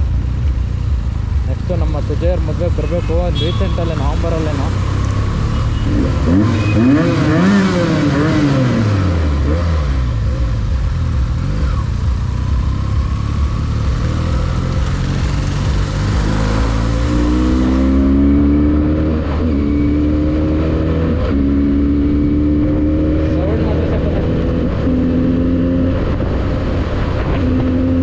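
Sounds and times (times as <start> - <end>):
road rumble: 0.0 - 28.0
pickup engine revving: 4.2 - 10.6, 11.2 - 28.0.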